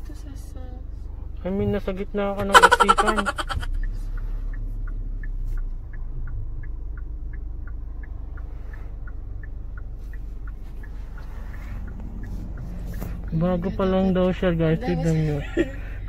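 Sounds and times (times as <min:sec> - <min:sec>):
engine and road rumble: 0:00.0 - 0:16.0
turn signal ticking: 0:00.0 - 0:16.0.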